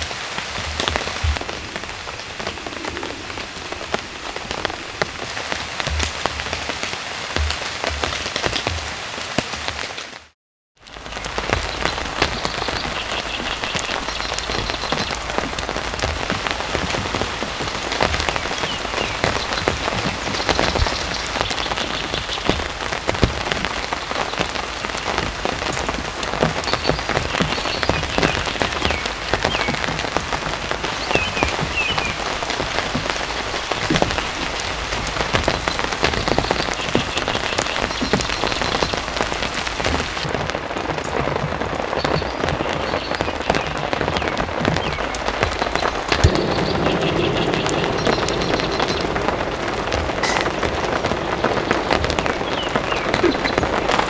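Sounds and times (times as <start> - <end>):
raindrops tapping close by: 0.0 - 54.0
steady rain hiss: 0.0 - 54.0.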